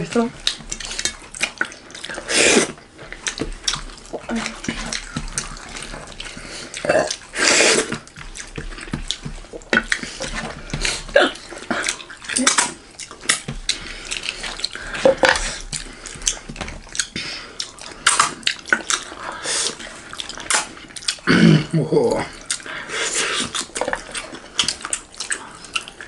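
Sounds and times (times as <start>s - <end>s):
wet chewing and lip-smacking: 0.0s - 26.0s.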